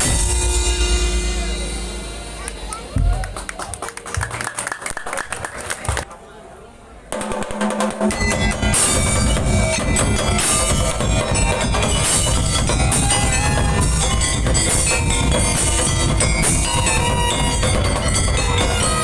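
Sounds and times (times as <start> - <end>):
drum strikes: 0.0 - 3.6, 7.1 - 19.0
percussion ensemble playing rhythm: 0.0 - 6.1, 7.1 - 19.0.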